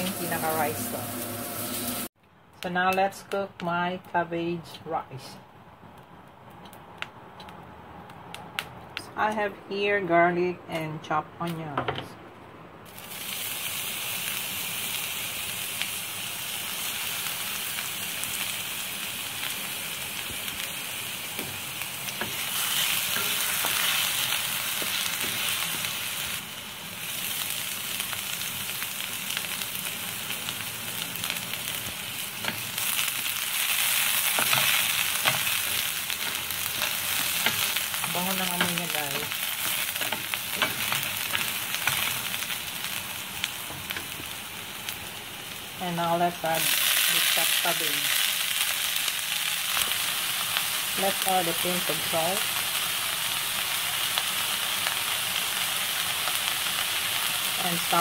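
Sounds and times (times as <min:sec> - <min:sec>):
garlic and onion sizzling in oil: 0:00.0 - 0:05.4, 0:12.8 - 0:58.0.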